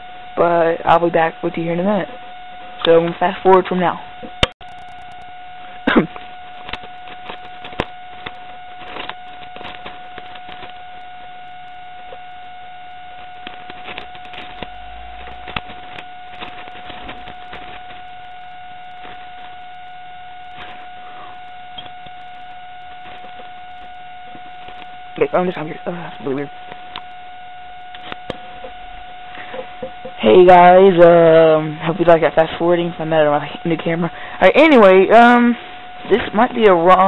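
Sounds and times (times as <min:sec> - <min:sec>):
high-pitched whine: 0:00.0 - 0:37.0.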